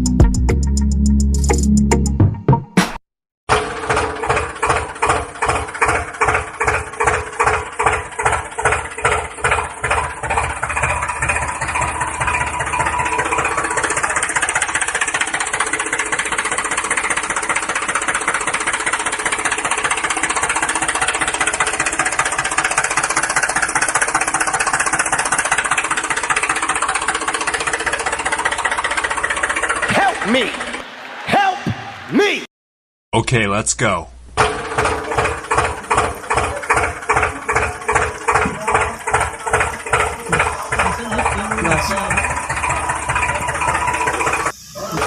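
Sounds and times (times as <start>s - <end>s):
mini tractor engine chugging: 3.5s - 30.8s, 34.4s - 45.0s.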